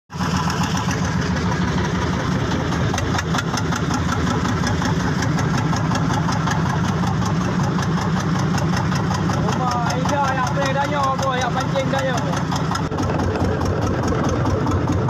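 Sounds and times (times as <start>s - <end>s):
boat engine running: 0.1s - 15.0s.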